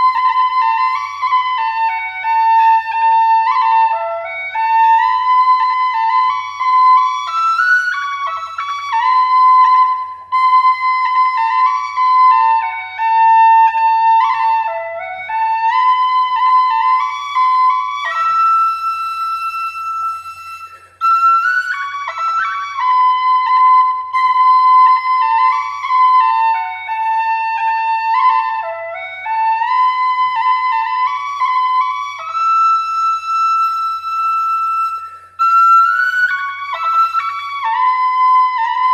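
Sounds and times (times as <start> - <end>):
solo flute melody: 0.0 - 38.9.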